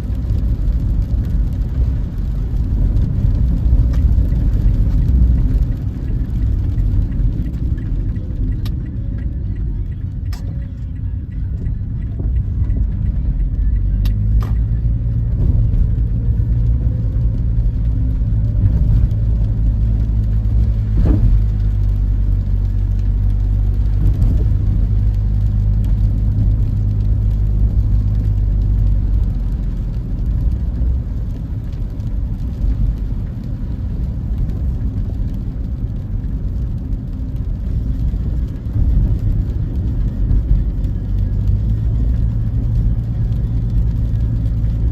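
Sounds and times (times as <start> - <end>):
car driving road noise: 0.0 - 44.9.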